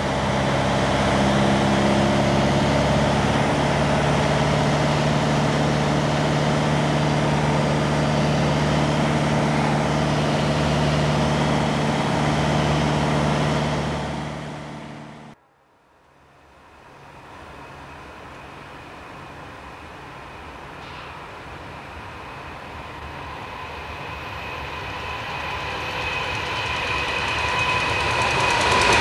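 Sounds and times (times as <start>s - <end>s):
small plane engine drone: 0.0s - 15.4s, 16.3s - 29.0s.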